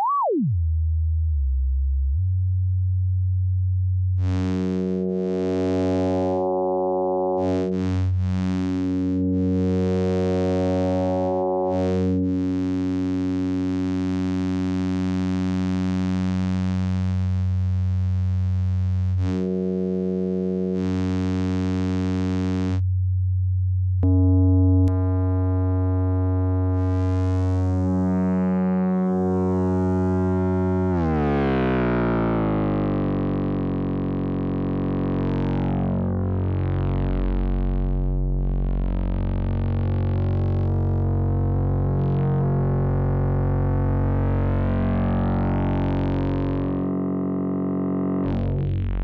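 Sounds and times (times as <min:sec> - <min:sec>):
sustained low synthesizer note: 0:00.0 - 0:17.2, 0:18.4 - 0:49.0.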